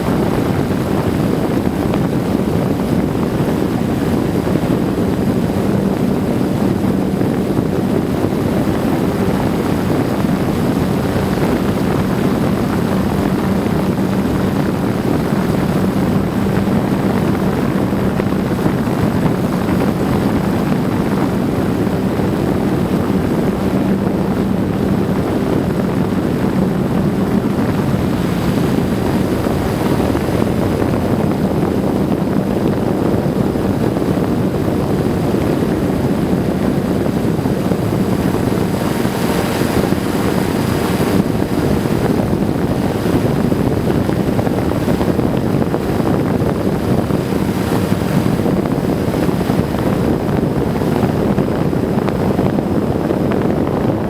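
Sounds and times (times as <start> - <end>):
engine drone: 0.0 - 54.0.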